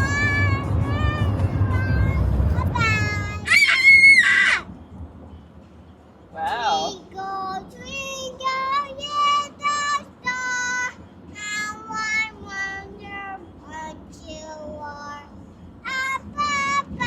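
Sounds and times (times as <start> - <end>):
child singing in a high voice: 0.0 - 3.9, 6.7 - 17.0.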